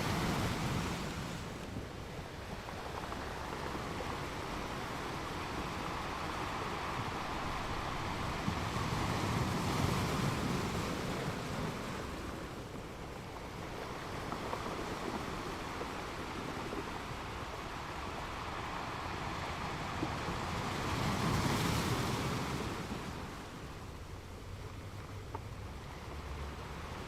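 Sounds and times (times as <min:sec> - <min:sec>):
ocean waves washing in: 0:00.0 - 0:24.9.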